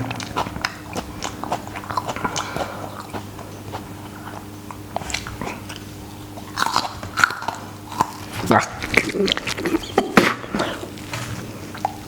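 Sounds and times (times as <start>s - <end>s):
crisp chewing crunches: 0.0s - 12.0s.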